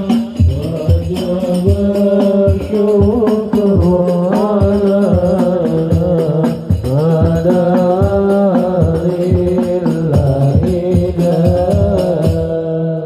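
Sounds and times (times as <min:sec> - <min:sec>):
frame drums beating: 0:00.0 - 0:12.7.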